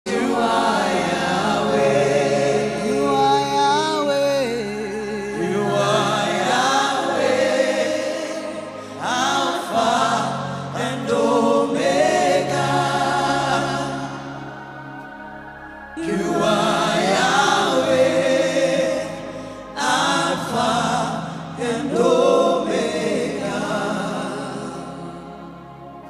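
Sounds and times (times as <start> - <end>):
voices singing gospel: 0.0 - 26.0.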